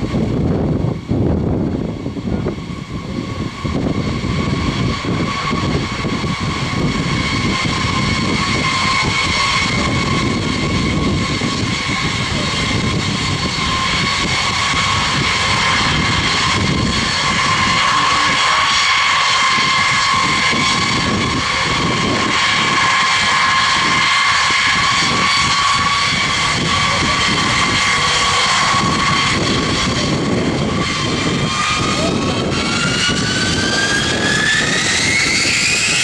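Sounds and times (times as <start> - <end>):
jet engines whining and rumbling: 0.0 - 36.0.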